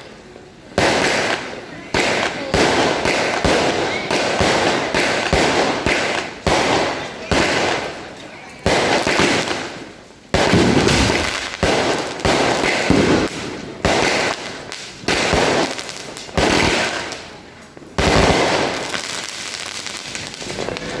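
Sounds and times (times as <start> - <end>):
fireworks bangs: 0.0 - 21.0
fireworks crackle: 0.0 - 21.0.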